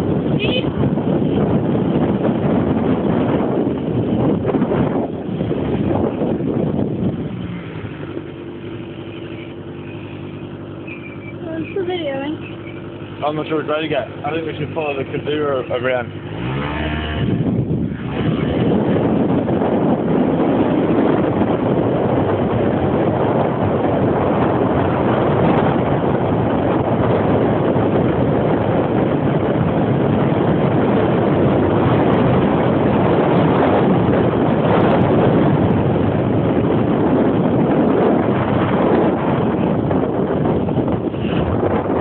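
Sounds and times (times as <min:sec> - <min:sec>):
quad bike engine: 0:00.0 - 0:42.0
wind noise on microphone: 0:00.0 - 0:42.0.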